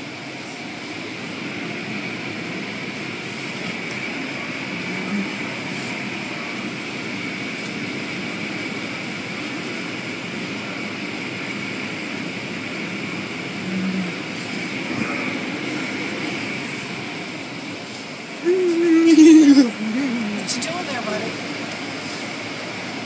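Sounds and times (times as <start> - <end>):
running machinery: 0.0 - 23.0.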